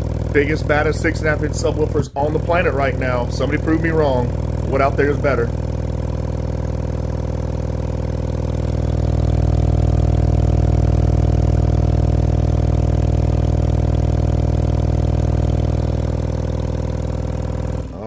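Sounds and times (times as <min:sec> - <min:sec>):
subwoofer low bass tone: 0:00.0 - 0:18.0.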